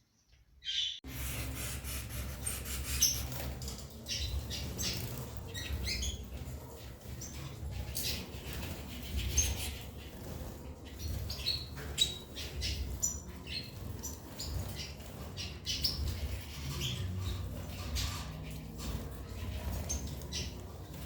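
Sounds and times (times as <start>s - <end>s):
birds squawking and chirping: 0.3s - 21.0s.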